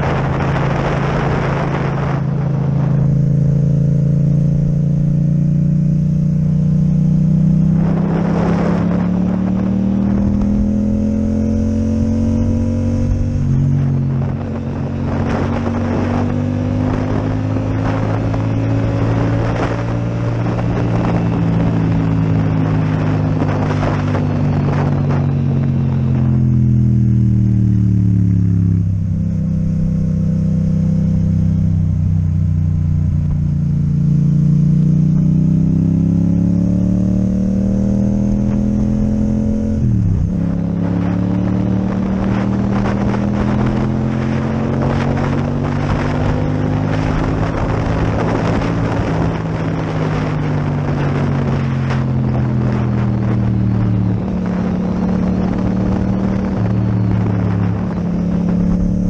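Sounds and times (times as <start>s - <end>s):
motorcycle engine revving: 0.0s - 59.0s
rushing wind noise: 0.0s - 59.0s.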